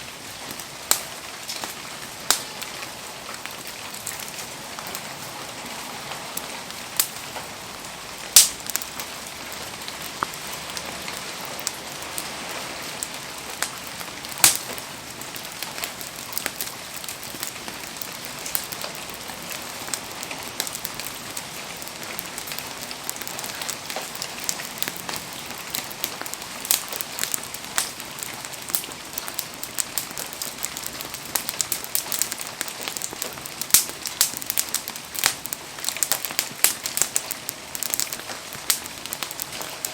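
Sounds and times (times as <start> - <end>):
rain hissing: 0.0 - 39.9
wood fire crackling and popping: 0.0 - 39.9.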